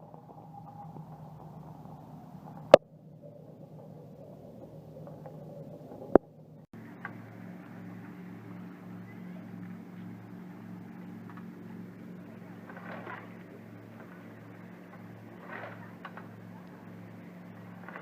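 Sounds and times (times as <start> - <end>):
low motor hum: 0.0 - 18.0
pulsing hum: 0.0 - 18.0.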